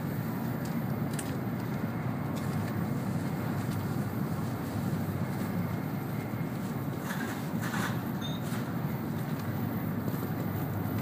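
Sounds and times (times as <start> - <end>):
train cabin low rumble: 0.0 - 11.0.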